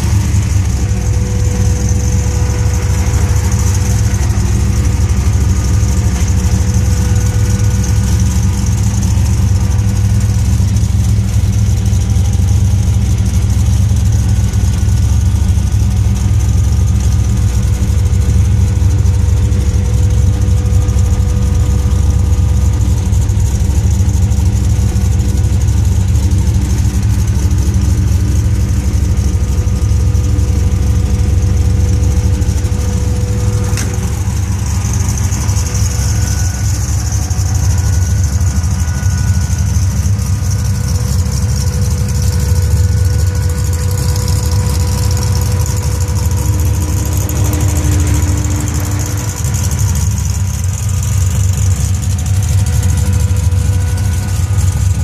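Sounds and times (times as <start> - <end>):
supercharged car engine idling: 0.0 - 55.0.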